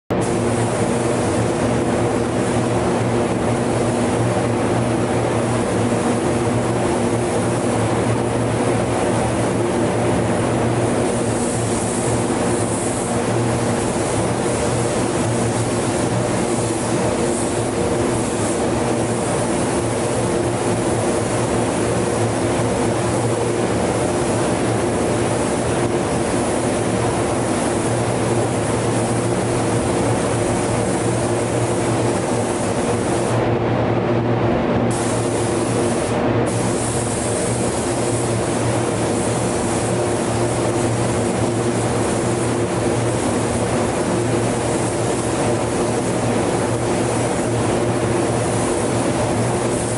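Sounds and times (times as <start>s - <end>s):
spray gun hissing: 0.1s - 33.4s, 34.9s - 49.9s.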